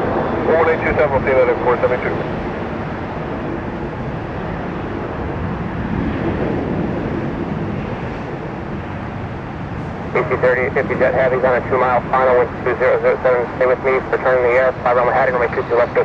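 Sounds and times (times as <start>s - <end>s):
jet airliner engine rush: 0.0s - 16.0s.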